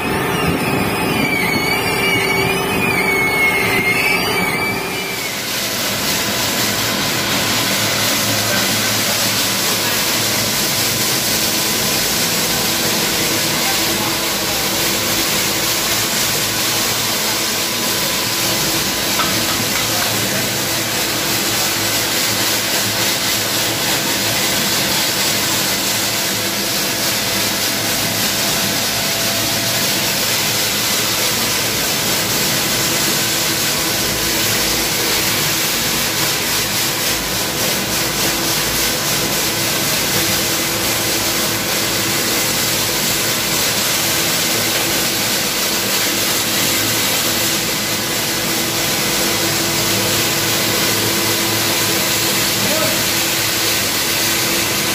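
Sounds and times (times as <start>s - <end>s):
faint mechanical hum: 0.0s - 54.9s
compressed air spray hiss: 5.3s - 54.8s.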